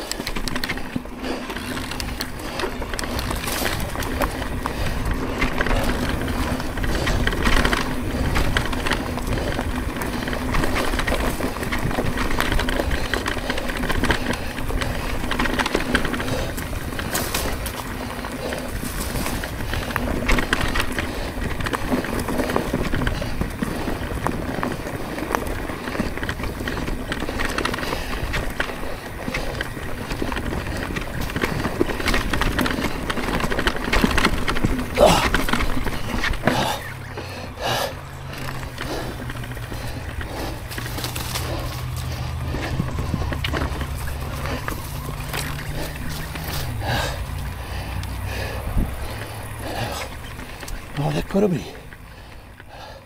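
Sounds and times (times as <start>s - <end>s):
bike clicks and rattles: 0.0s - 53.0s
steady low motor hum: 0.0s - 53.0s
tyre and wind noise: 0.0s - 53.0s.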